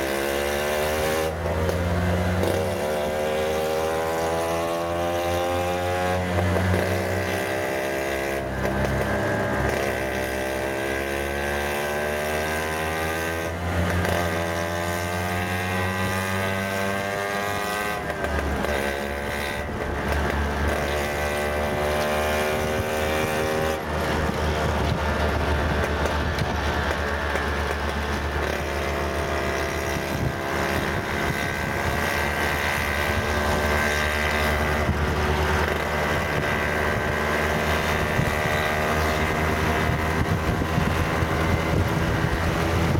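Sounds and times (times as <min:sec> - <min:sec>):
auto-rickshaw engine running: 0:00.0 - 0:42.9
road rumble: 0:00.0 - 0:42.9.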